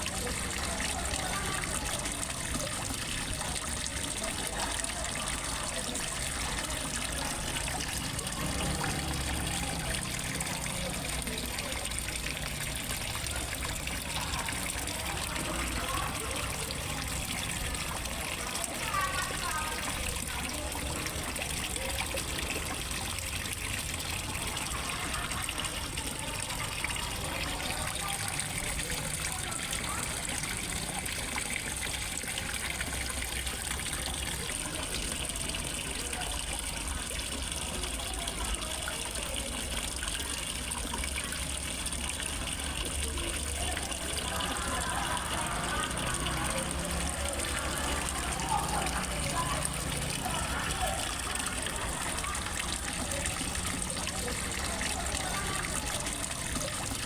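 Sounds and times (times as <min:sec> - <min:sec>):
water trickling into pond: 0:00.0 - 0:57.0.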